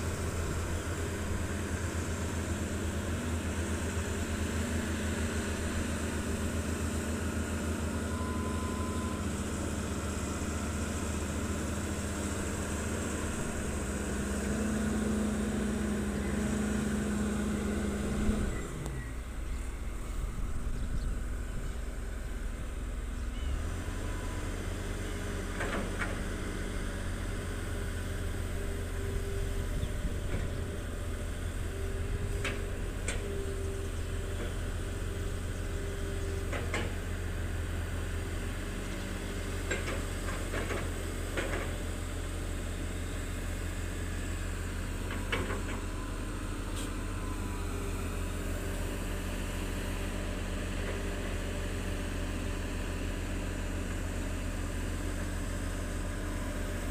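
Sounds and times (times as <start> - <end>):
excavator diesel engines running: 0.0 - 56.9.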